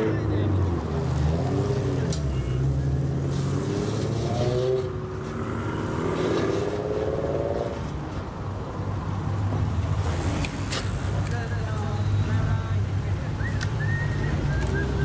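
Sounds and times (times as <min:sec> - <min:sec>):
car engine approaching: 0:00.0 - 0:15.0.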